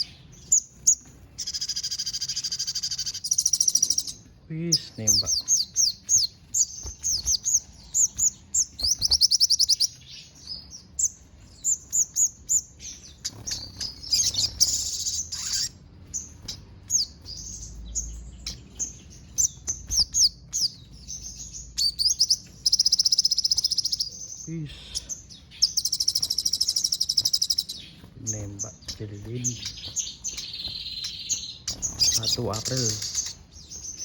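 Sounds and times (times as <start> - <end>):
bird singing high chirps and trills: 0.0 - 34.0.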